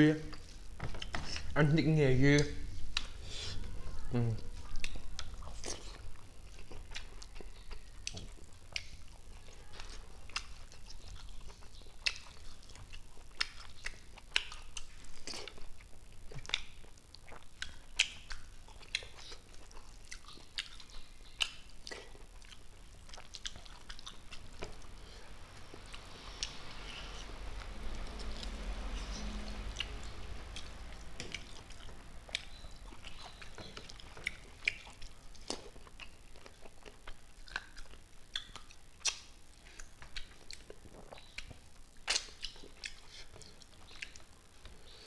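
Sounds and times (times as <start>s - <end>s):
faint low room hum: 0.0s - 45.0s
person chewing and lip-smacking: 2.4s - 44.9s.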